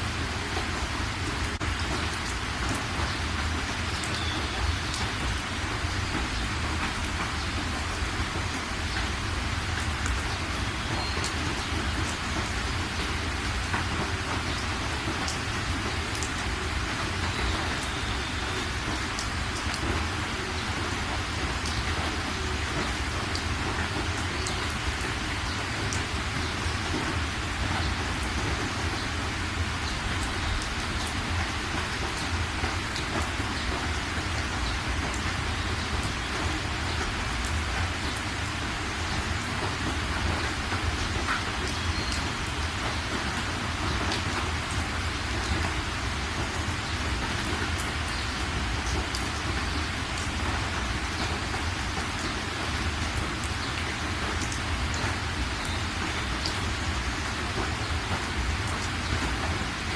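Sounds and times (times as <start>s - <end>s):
rain drop ticks: 0.0s - 59.9s
steady rain falling: 0.0s - 59.9s.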